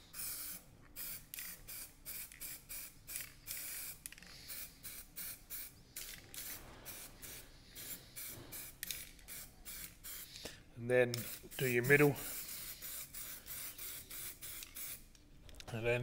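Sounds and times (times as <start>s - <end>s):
aerosol can spraying: 0.2s - 10.4s, 11.2s - 15.1s.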